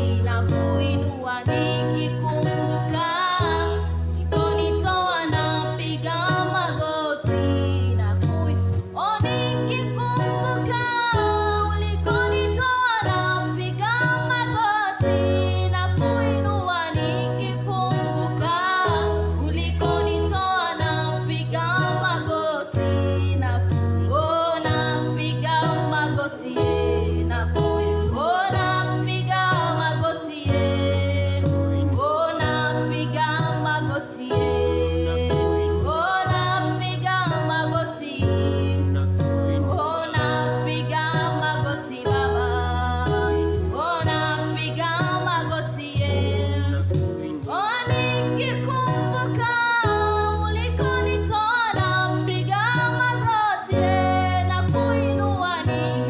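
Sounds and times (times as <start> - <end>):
electronic keyboard bass pattern: 0.0 - 56.0
woman and man singing: 0.0 - 56.0.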